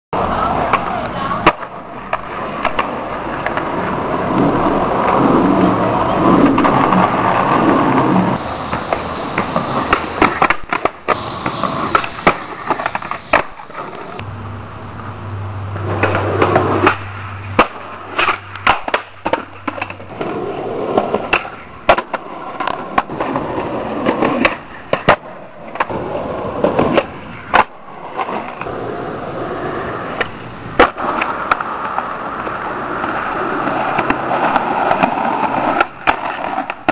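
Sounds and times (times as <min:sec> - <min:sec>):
skateboard wheels rolling on pavement: 0:00.1 - 0:36.9
skateboard clacks: 0:00.2 - 0:14.2, 0:15.7 - 0:36.9.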